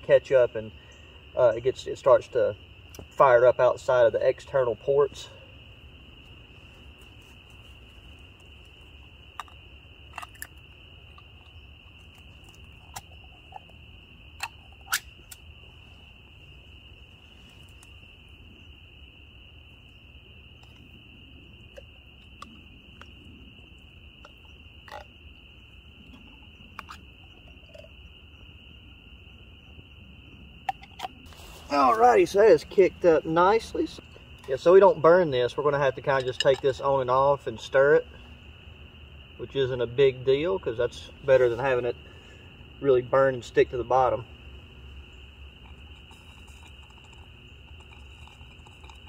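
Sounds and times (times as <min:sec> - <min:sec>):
distant frogs chorus: 0:00.0 - 0:49.0.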